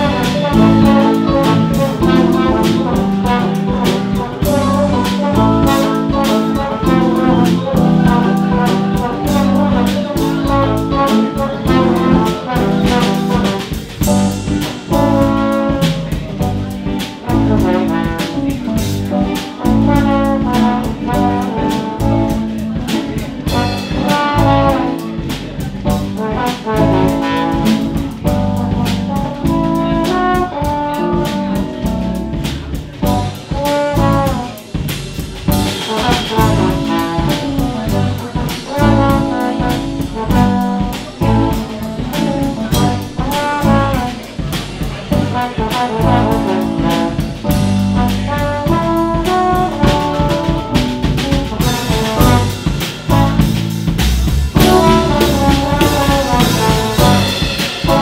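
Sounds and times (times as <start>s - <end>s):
drum kit beat: 0.0s - 58.0s
trombone melody: 0.0s - 58.0s.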